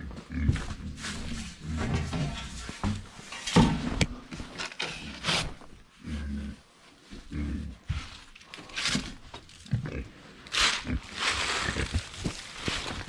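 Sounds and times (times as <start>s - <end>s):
pigs grunting while eating: 0.0s - 3.9s, 4.9s - 13.0s.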